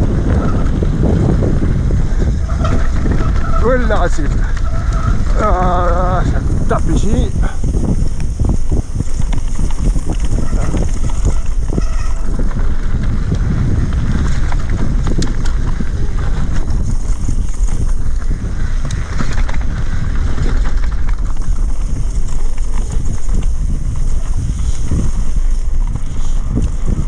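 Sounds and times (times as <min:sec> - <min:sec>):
bike clattering and rattling: 0:00.0 - 0:27.0
tyres rumbling on dirt trail: 0:00.0 - 0:27.0
wind rushing over microphone: 0:00.0 - 0:27.0.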